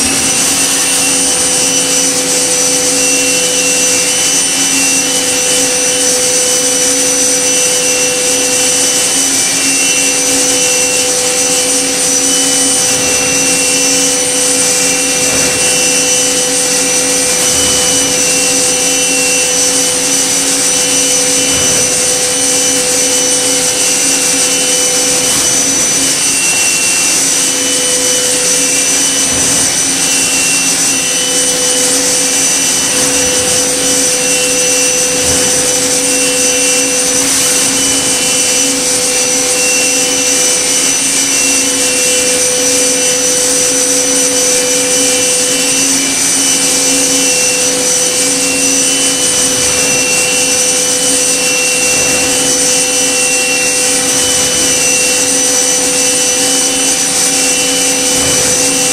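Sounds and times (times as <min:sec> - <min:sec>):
milling machine whirring: 0:00.0 - 0:58.9.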